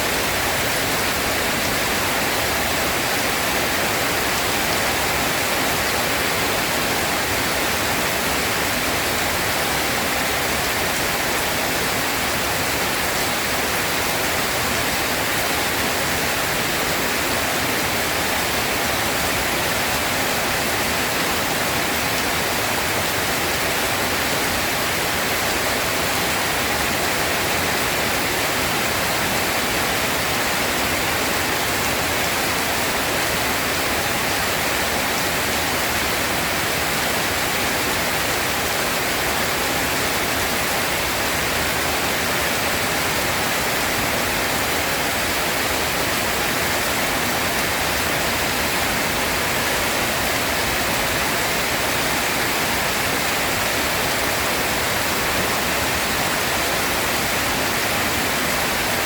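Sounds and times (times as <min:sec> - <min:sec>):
heavy rainfall: 0:00.0 - 0:59.0.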